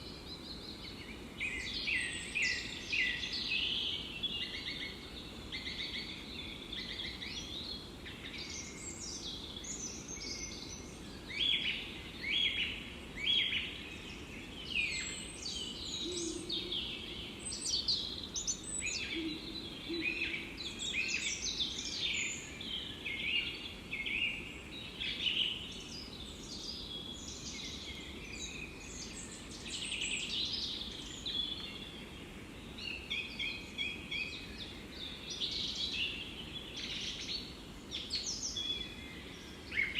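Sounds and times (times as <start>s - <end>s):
forest birds chirping and singing: 0.0s - 39.9s
low background noise: 0.0s - 39.9s.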